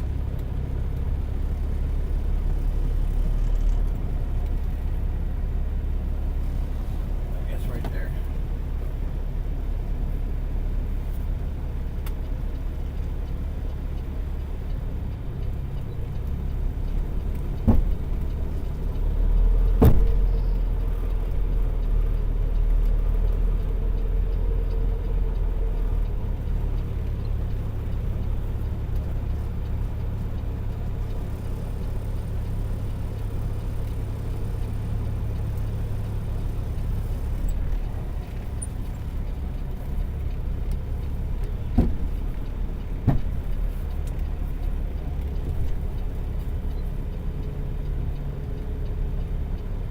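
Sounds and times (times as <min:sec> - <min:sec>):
diesel truck engine rumbling: 0:00.0 - 0:49.9.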